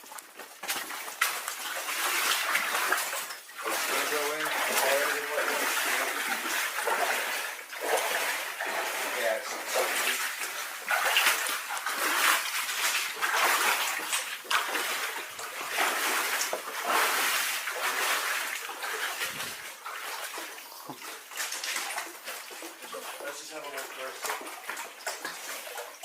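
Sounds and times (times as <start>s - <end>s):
water splashing and sloshing: 0.0s - 26.0s.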